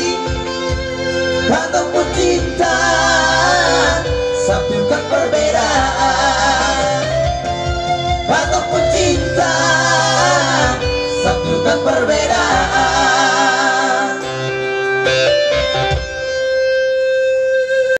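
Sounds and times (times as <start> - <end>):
male vocal trio singing with vibrato: 0.0 - 14.8
guitar-led backing music: 0.0 - 17.9.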